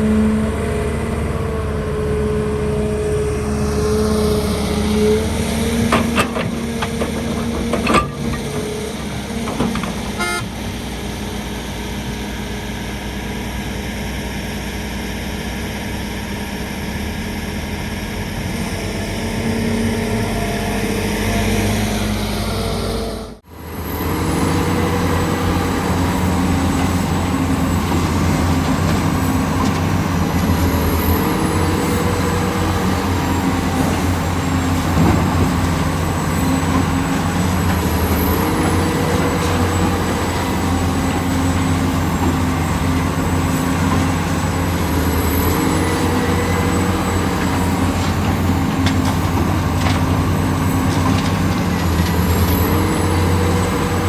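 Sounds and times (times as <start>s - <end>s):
excavator diesel engine working: 0.0s - 54.0s.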